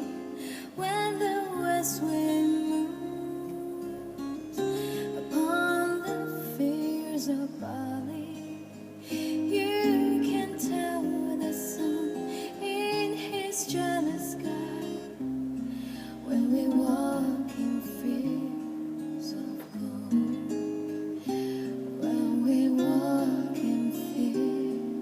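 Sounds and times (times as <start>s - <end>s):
acoustic guitar ballad: 0.0s - 25.0s.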